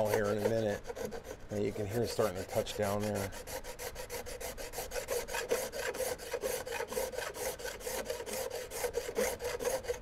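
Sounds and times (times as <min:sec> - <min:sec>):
rasp filing wood: 0:00.0 - 0:10.0.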